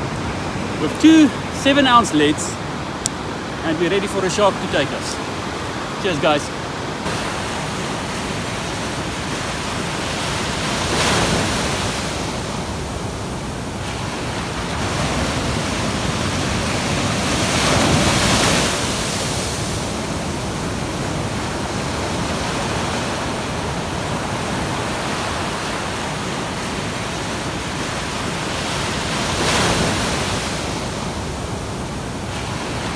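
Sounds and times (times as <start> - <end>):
ocean surf washing: 0.0 - 32.9
waves crashing: 0.0 - 32.9.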